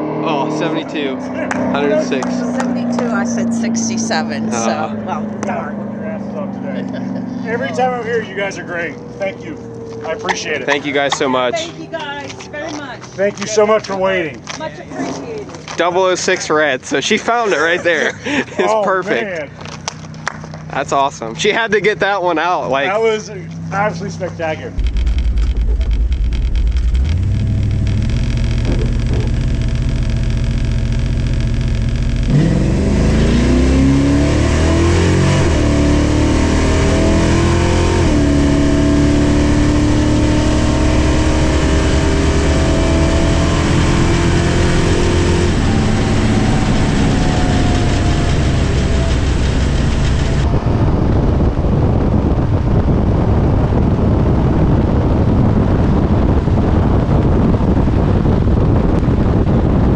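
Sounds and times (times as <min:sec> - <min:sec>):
drag racing car engine revving: 0:00.0 - 0:12.5, 0:23.1 - 0:59.8.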